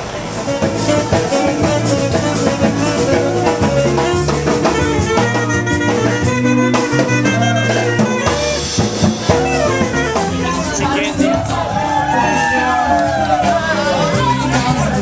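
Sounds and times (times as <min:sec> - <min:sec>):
dance music: 0:00.0 - 0:15.0
drum kit beat: 0:00.0 - 0:15.0.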